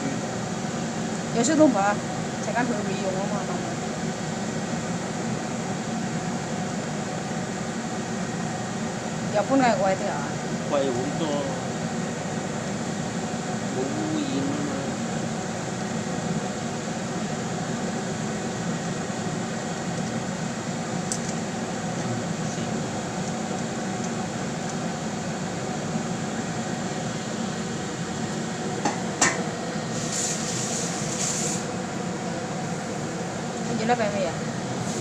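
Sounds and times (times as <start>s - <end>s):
kitchen equipment humming: 0.0s - 35.0s
pot steaming: 0.0s - 35.0s.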